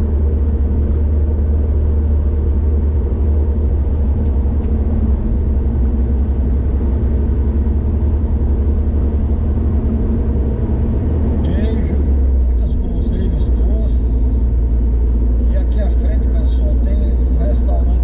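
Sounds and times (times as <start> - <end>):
car driving at speed: 0.0 - 18.0.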